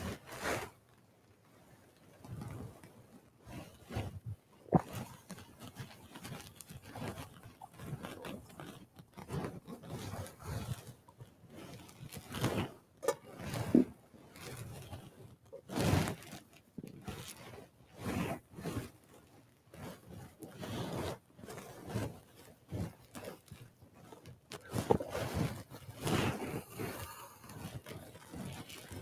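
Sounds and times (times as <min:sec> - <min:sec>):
rustling and scraping: 0:00.0 - 0:29.0.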